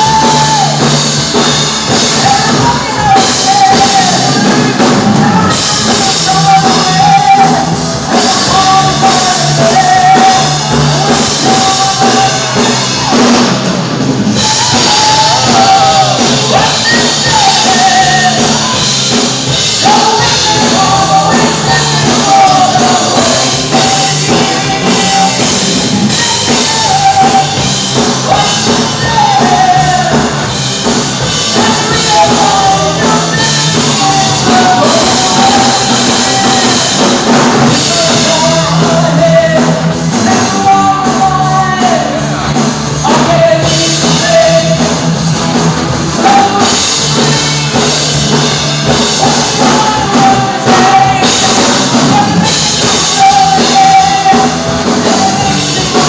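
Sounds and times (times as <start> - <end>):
heavy metal band playing: 0.0 - 56.0
high lead vocal: 0.0 - 56.0.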